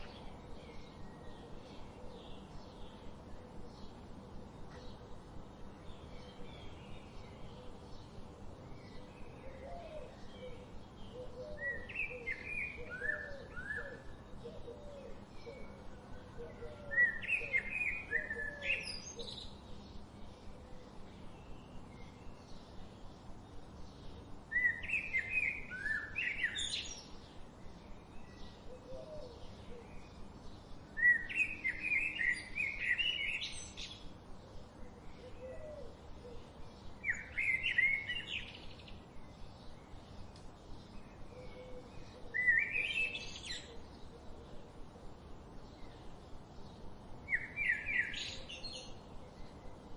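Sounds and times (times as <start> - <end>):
low background hiss: 0.0 - 49.9
songbird song phrases: 0.0 - 49.9
soft bird chirping: 5.8 - 49.9.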